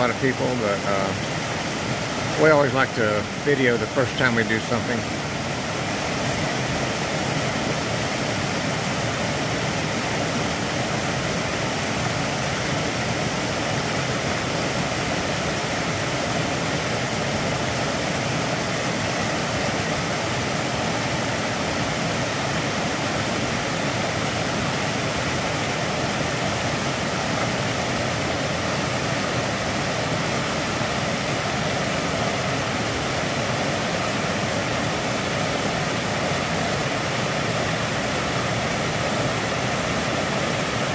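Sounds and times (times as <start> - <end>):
stream rushing over boulders: 0.0 - 40.9.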